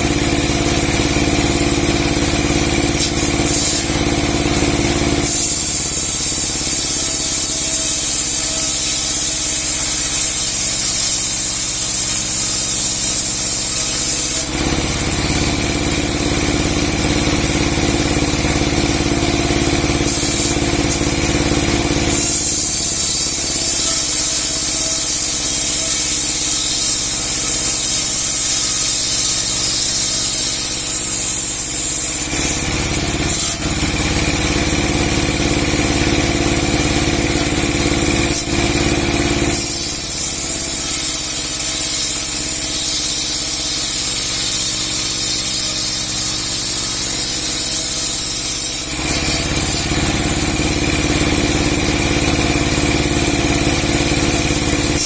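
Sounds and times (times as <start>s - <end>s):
sawmill blade splitting a log: 0.0s - 55.0s.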